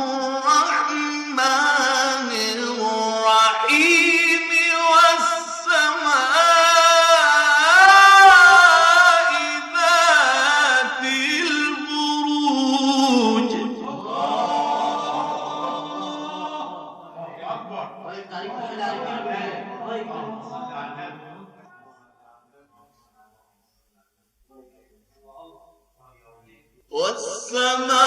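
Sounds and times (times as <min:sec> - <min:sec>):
man chanting recitation: 0:00.0 - 0:16.2, 0:17.0 - 0:28.0.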